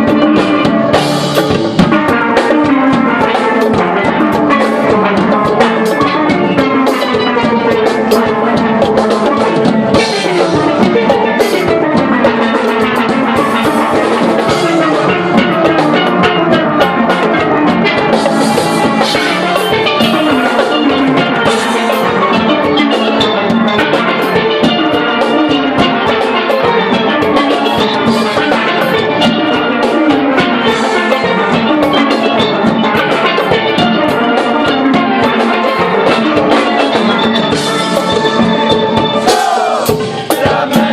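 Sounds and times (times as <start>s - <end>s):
drum kit beat: 0.0s - 40.9s
steelpan melody: 0.0s - 40.9s.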